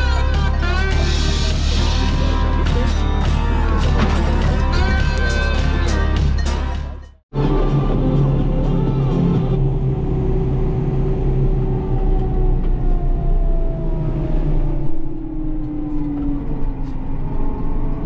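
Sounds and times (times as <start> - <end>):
tractor engine rumbling: 0.0 - 18.0
tractor whine: 0.0 - 18.0.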